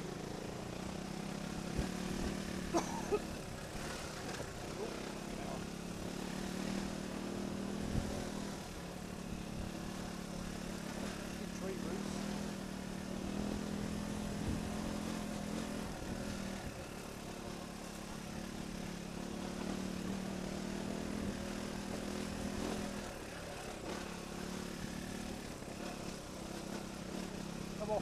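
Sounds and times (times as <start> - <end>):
motorbike engine running: 0.0 - 28.0.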